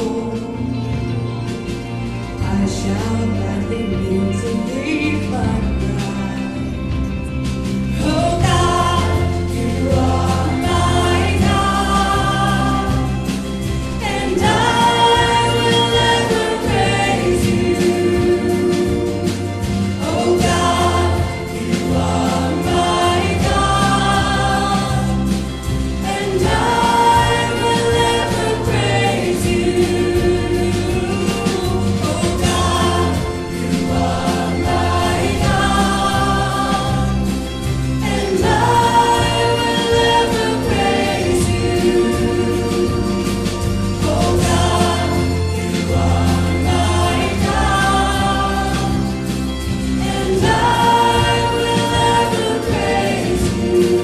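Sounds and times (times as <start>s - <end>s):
men and women singing: 0.0s - 1.7s, 2.4s - 7.0s, 7.8s - 54.0s
bass: 0.0s - 54.0s
electric guitars: 0.0s - 54.0s
keyboard: 0.0s - 54.0s.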